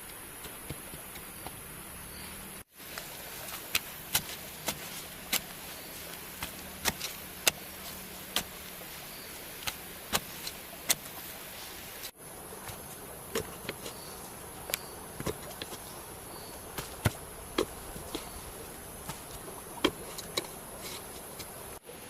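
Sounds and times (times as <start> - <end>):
steady high-pitched hiss: 0.0 - 22.0.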